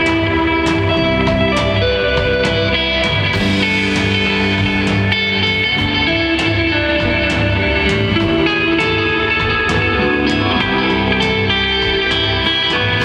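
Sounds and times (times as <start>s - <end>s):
bass guitar: 0.0s - 13.0s
drums: 0.0s - 13.0s
guitar sustained notes: 0.0s - 13.0s.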